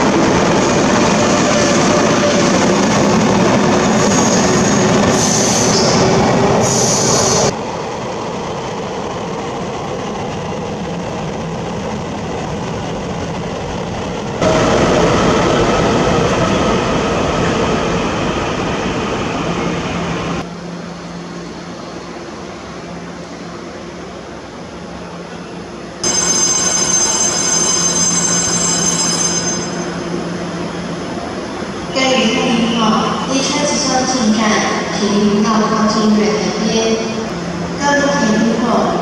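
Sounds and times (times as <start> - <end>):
steady train hum: 0.0 - 39.0.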